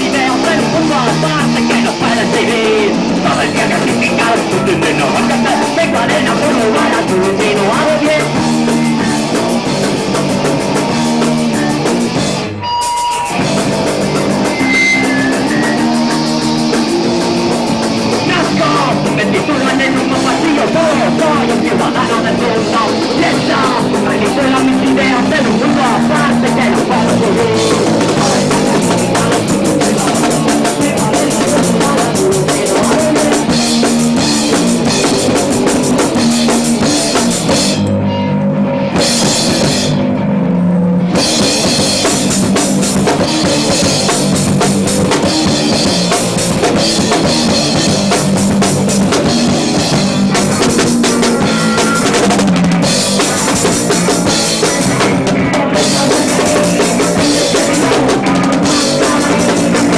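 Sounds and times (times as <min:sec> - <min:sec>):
drum kit: 0:00.0 - 0:59.9
punk rock band playing: 0:00.0 - 0:59.9.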